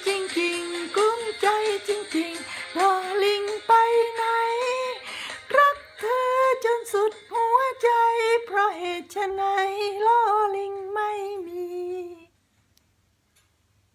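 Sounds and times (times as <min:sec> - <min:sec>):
woman singing in a high voice: 0:00.0 - 0:12.3.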